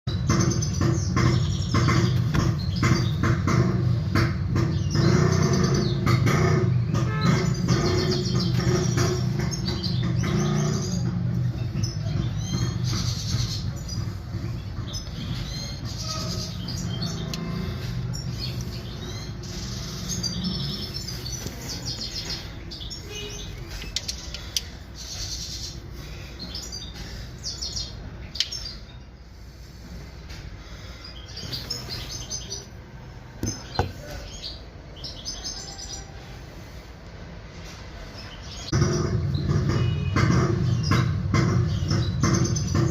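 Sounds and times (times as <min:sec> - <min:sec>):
small birds chirping: 0:00.1 - 0:42.9.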